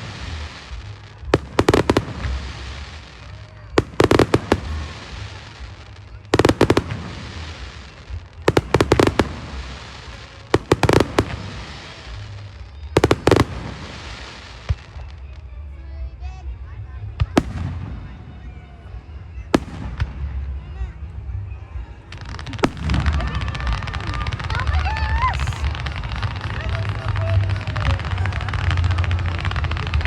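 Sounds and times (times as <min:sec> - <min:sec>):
fireworks bangs: 0:00.0 - 0:15.3, 0:17.1 - 0:21.0, 0:21.6 - 0:30.0
fireworks crackling hiss: 0:00.0 - 0:16.0, 0:17.3 - 0:30.0.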